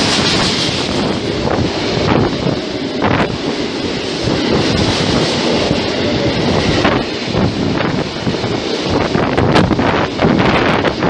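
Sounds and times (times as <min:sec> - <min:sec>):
train wheels rumbling on rails: 0:00.0 - 0:11.0
wind buffeting microphone: 0:00.0 - 0:11.0.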